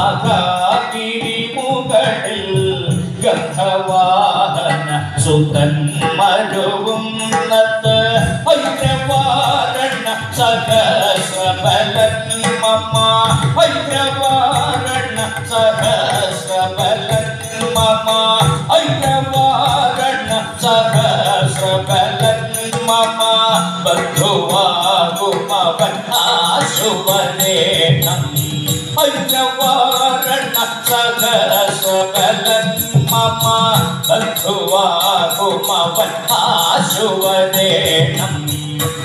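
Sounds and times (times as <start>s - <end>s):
hand drum rhythm: 0.0s - 39.0s
person chanting verses: 0.0s - 39.0s.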